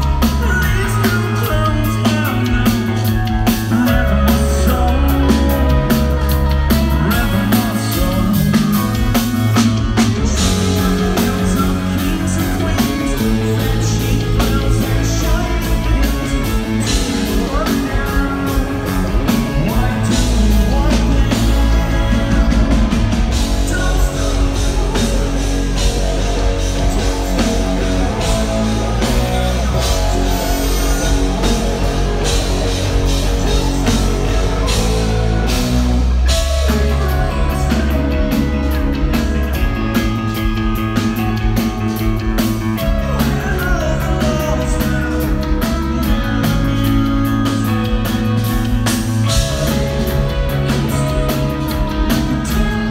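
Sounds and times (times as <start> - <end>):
person singing: 0.0 - 48.6
rock band playing live: 0.0 - 52.9.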